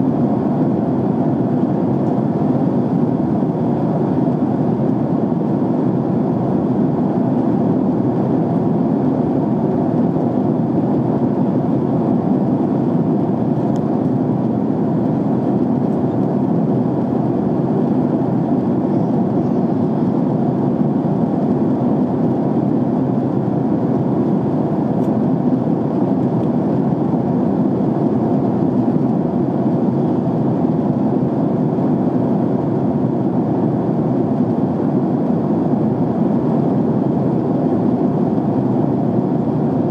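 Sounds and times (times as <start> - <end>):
air rushing along fuselage: 0.0 - 39.9
jet engines humming: 0.0 - 39.9.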